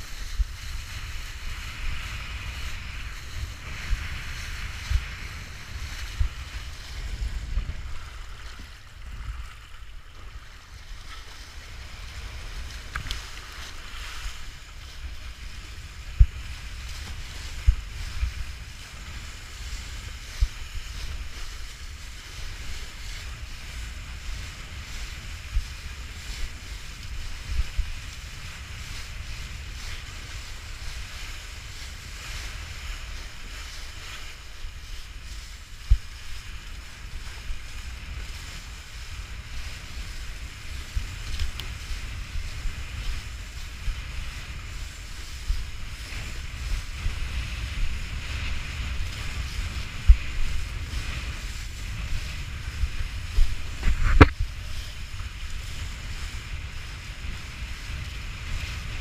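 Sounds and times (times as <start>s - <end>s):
board planing across water: 0.0s - 59.0s
wind buffeting microphone: 0.0s - 59.0s.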